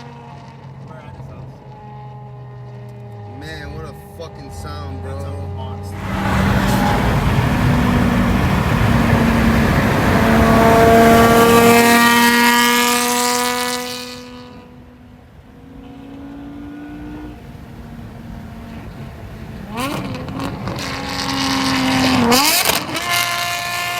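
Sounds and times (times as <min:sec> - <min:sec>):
quieter engine tone: 0:00.0 - 0:23.9
race car engine at high revs: 0:00.0 - 0:23.9.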